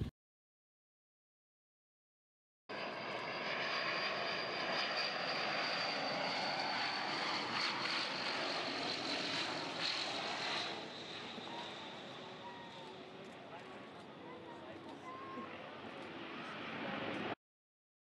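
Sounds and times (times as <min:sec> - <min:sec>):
turboprop plane engines whining: 0:02.7 - 0:17.4.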